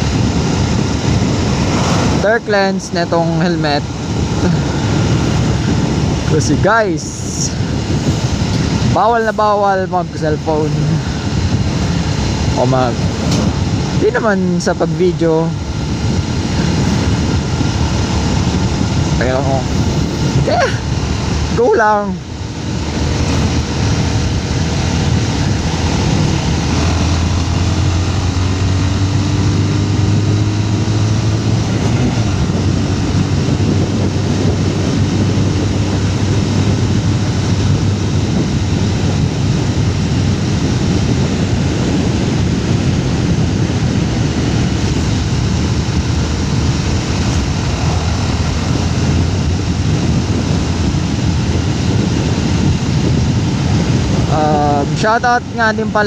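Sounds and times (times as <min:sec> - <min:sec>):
motorcycle engine hum: 0:00.0 - 0:56.0
wind and road noise: 0:00.0 - 0:56.0.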